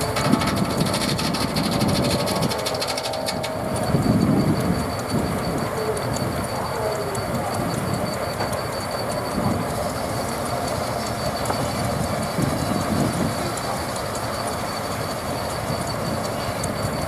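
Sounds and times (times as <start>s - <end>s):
circular saw running: 0.0s - 17.0s
steam engine running: 0.0s - 17.0s
thin high tone: 0.0s - 17.0s.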